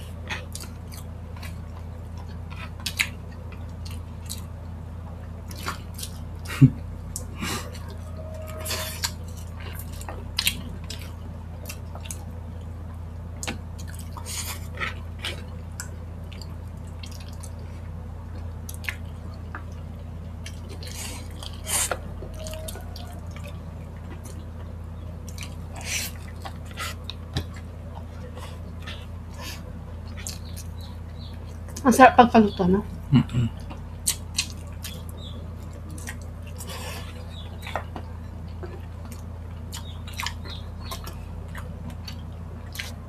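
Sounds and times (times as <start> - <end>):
chewing: 0.0 - 4.6, 5.4 - 12.7, 13.4 - 31.8, 33.0 - 43.0
steady low hum: 0.0 - 43.0.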